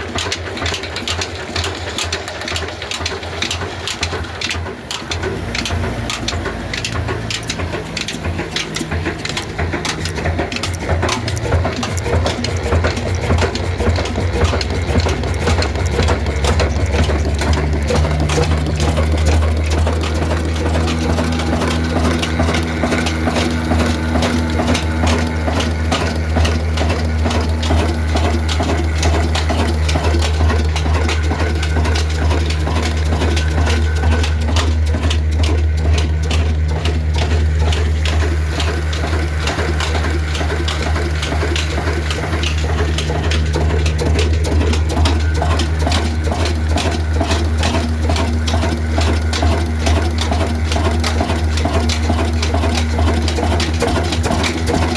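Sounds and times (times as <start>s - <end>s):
diesel engine knocking: 0.0s - 54.9s.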